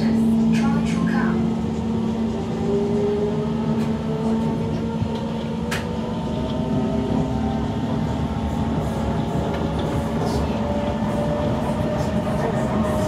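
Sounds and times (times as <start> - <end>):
rumble of wheels on track: 0.0 - 13.0.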